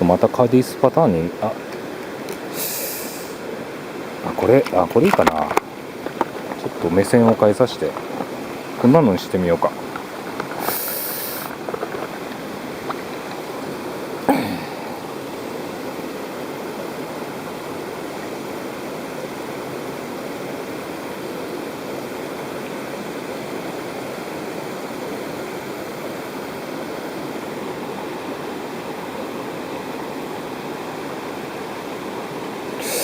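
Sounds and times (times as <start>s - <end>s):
stream rushing: 0.0s - 33.0s.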